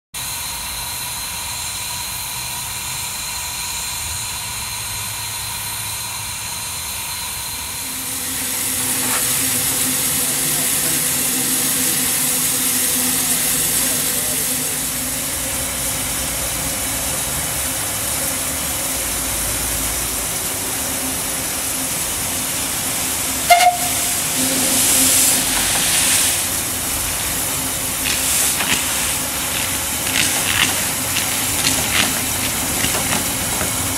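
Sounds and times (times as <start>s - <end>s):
steam hissing: 0.2s - 33.9s.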